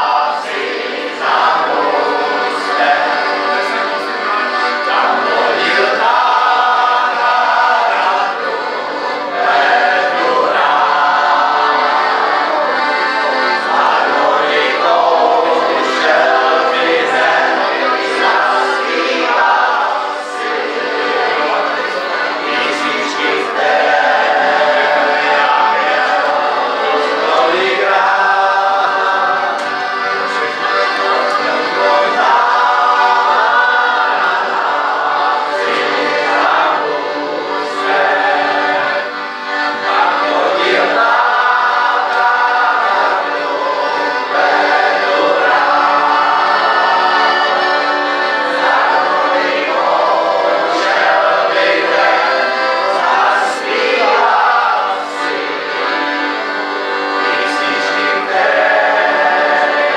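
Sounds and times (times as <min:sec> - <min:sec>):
group of voices singing: 0:00.0 - 0:59.9
piano accordion playing: 0:00.0 - 0:59.9.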